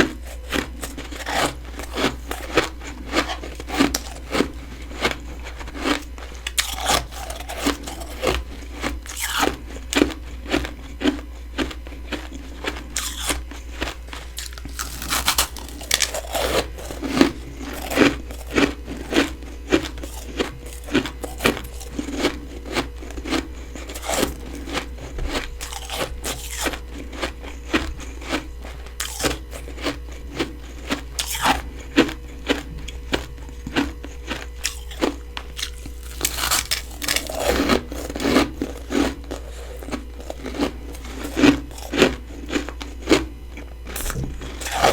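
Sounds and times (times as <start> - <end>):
chewing crunchy frost: 0.0 - 44.9.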